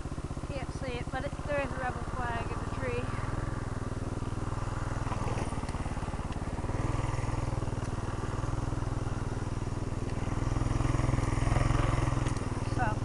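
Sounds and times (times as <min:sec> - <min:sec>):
mini bike engine running: 0:00.0 - 0:13.0.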